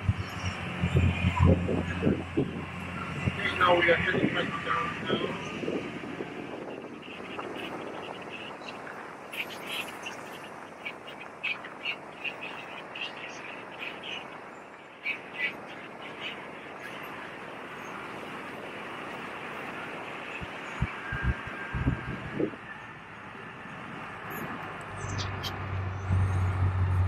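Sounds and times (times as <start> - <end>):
birds chirping: 0.0 - 27.0
steady background noise: 0.0 - 27.0.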